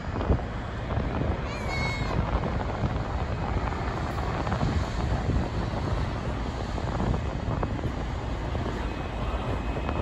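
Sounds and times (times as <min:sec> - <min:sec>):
tugboat diesel engine rumble: 0:00.0 - 0:10.0
wind buffeting microphone: 0:00.0 - 0:10.0.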